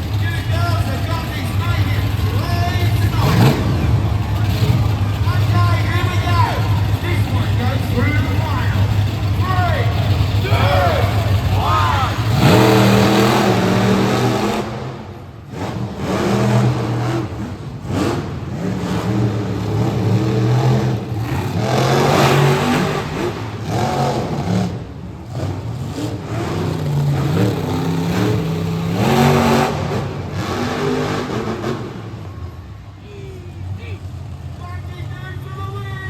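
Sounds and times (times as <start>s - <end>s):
monster truck engines revving: 0.0s - 36.0s.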